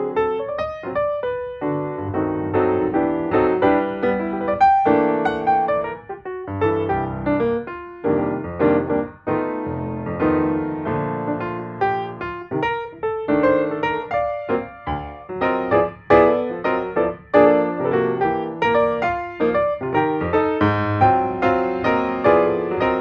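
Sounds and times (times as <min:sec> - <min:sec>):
background piano music: 0:00.0 - 0:23.0.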